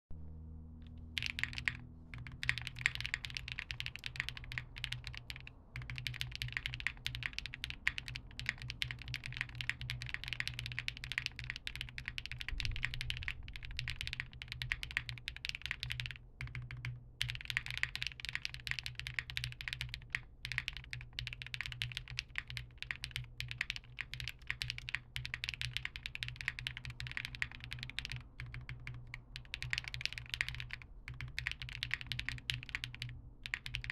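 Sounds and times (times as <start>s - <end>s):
low steady hum: 0.1s - 33.9s
mechanical keyboard typing: 0.9s - 33.9s.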